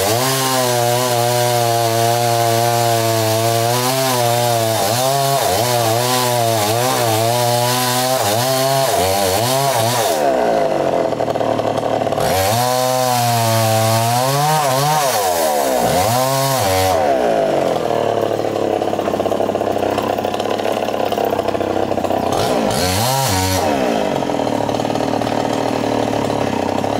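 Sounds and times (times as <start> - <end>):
chainsaw revving: 0.0 - 26.9.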